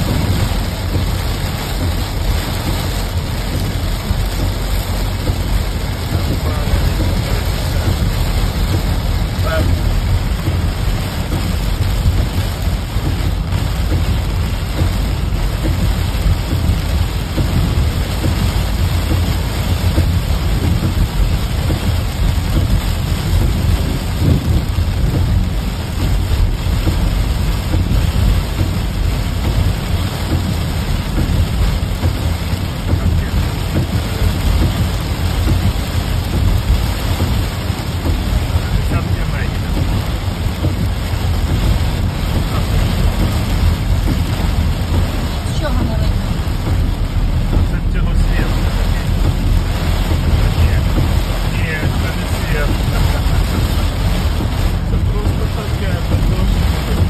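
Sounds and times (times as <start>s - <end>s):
heavy rain drumming on car: 0.0s - 57.0s
low rumble: 0.0s - 57.0s.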